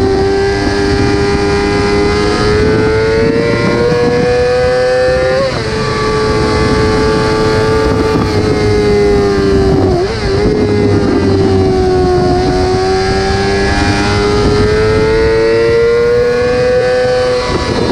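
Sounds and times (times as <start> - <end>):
motorcycle engine screaming: 0.0 - 17.9.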